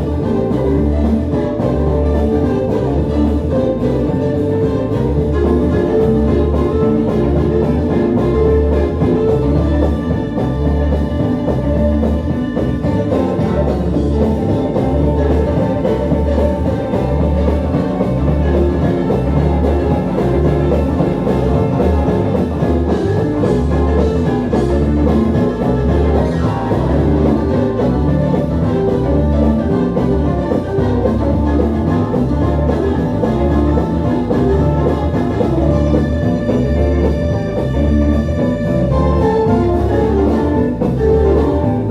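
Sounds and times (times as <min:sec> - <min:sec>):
live gospel band music: 0:00.0 - 0:41.9
pulsing bass line: 0:00.0 - 0:41.9.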